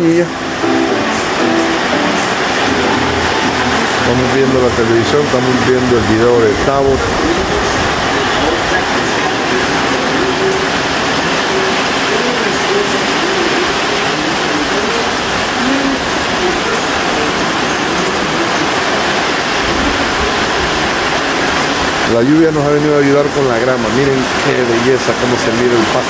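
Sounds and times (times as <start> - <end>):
heavy rain on a metal roof: 0.0 - 26.0.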